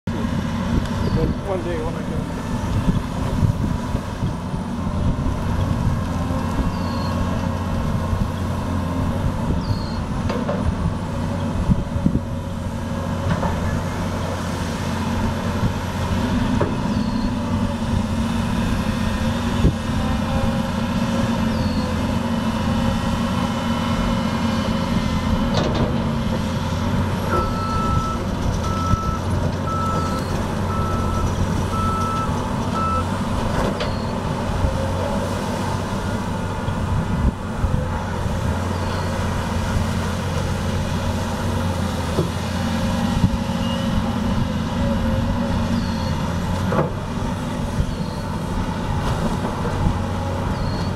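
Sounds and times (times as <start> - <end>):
excavator diesel engine running: 0.1 - 50.9.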